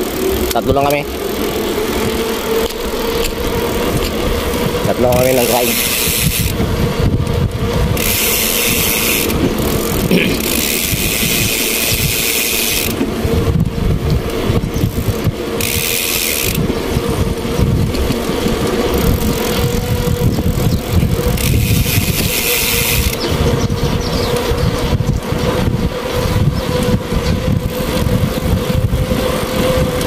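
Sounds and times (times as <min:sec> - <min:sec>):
vehicle rumble and hum: 0:00.0 - 0:30.0
wind rushing over microphone: 0:00.0 - 0:30.0.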